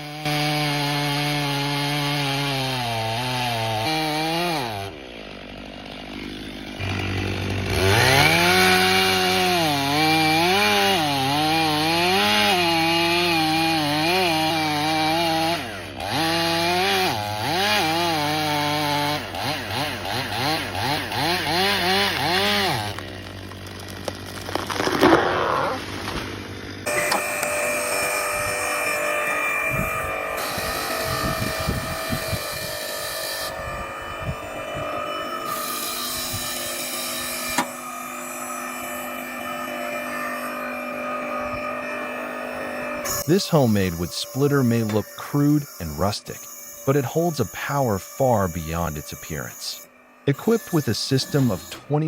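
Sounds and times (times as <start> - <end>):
chainsaw revving and cutting: 0.0 - 52.0.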